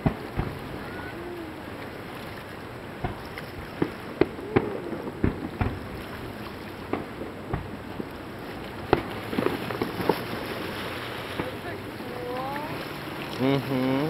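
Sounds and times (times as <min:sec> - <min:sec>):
fireworks bangs: 0:00.0 - 0:01.8, 0:03.0 - 0:12.8.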